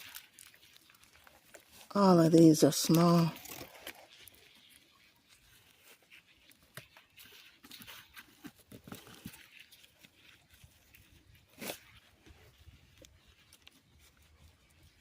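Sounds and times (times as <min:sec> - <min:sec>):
hands sifting damp soil: 0:00.0 - 0:15.0.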